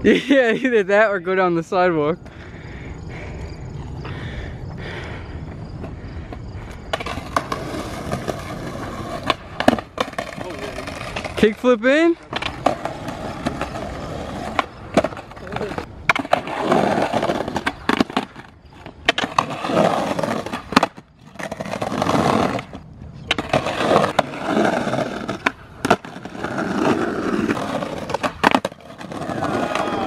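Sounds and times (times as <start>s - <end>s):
skateboard wheels rolling on concrete: 0.0s - 30.0s
skateboard clacking on ground: 5.8s - 30.0s.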